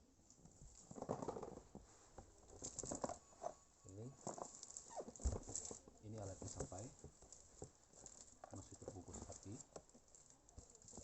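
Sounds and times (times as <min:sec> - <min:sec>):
parcel wrapping rustling: 0:00.6 - 0:11.0.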